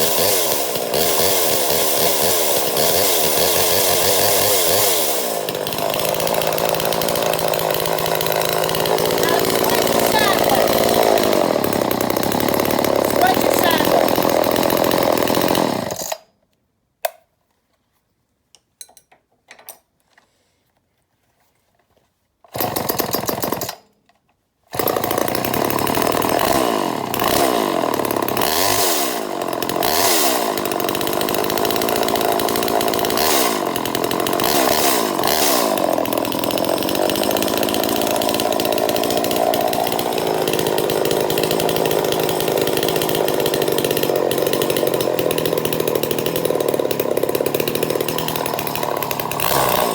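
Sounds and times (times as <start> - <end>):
chainsaw engine running and revving: 0.0 - 16.1, 22.6 - 23.7, 24.8 - 49.9.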